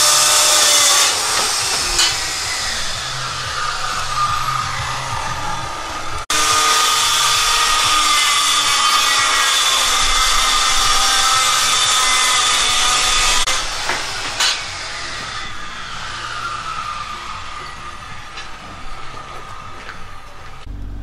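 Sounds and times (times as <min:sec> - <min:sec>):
power saw cutting: 0:00.0 - 0:20.7.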